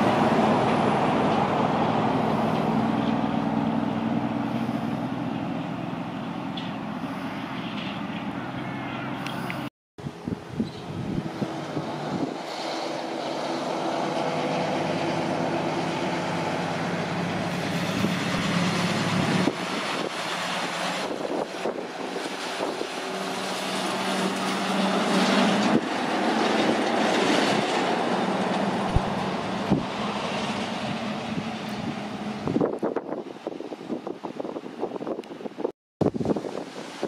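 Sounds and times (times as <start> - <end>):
diesel truck engines passing: 0.0 - 37.0.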